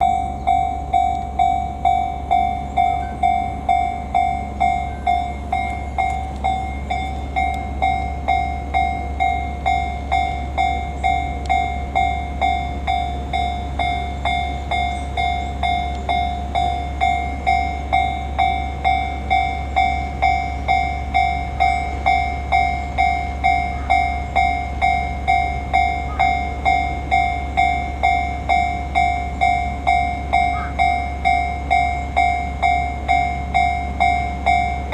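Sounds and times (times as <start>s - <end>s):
level-crossing warning bell: 0.0s - 34.9s
steady low rumble: 0.0s - 34.9s.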